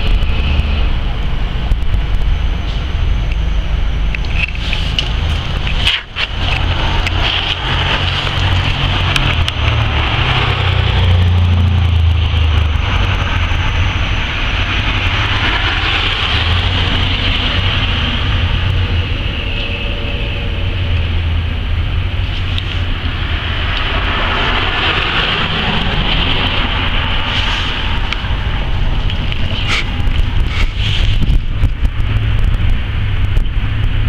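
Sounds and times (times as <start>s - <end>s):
road traffic rumble: 0.0s - 34.0s
wind on microphone: 0.0s - 34.0s.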